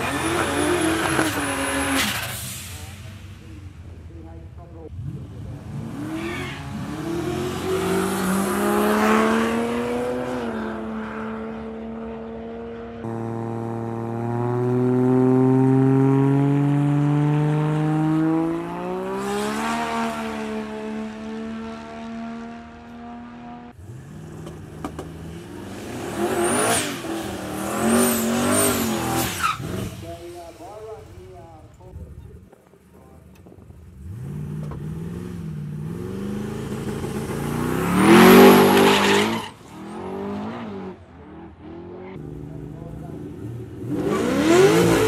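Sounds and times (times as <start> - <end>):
car engines accelerating: 0.0 - 45.0.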